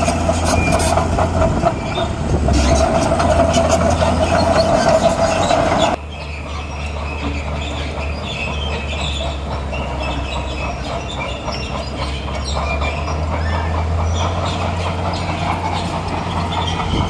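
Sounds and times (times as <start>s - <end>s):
crawler tracks squealing and clanking: 0.0s - 17.0s
diesel engine running: 0.0s - 17.0s.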